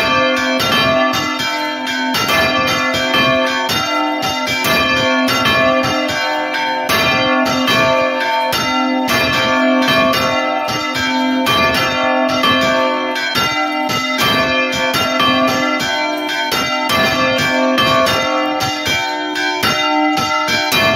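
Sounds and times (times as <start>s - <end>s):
church bells pealing: 0.0s - 20.9s.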